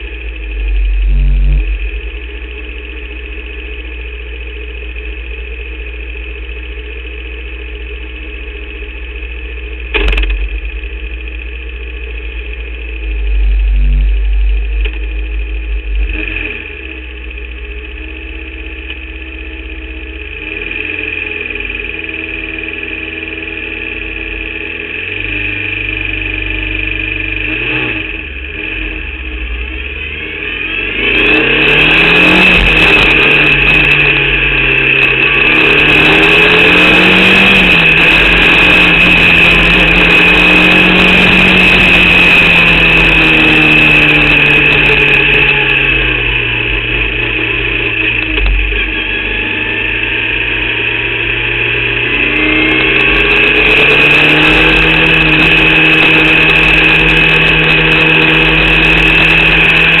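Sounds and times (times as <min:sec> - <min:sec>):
race car engine revving: 0:00.0 - 1:00.0
steady high whine: 0:00.0 - 1:00.0.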